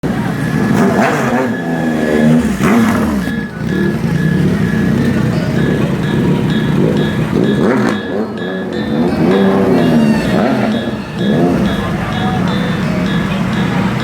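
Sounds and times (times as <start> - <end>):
motorcycle engines revving: 0.0 - 14.0
short high pips: 0.7 - 14.0.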